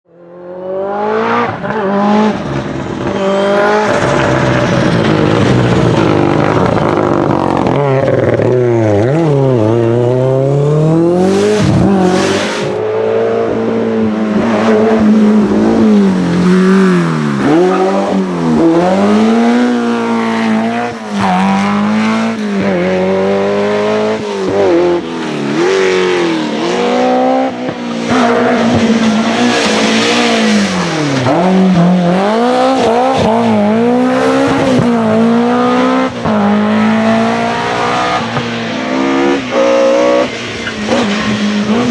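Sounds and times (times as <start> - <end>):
rally car engine revving: 0.1 - 41.9.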